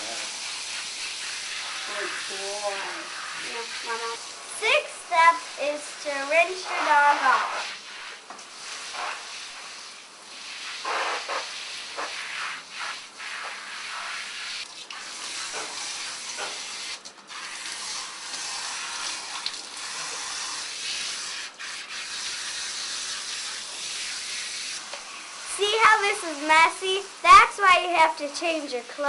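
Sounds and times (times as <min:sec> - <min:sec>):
running water hissing: 0:00.0 - 0:29.0.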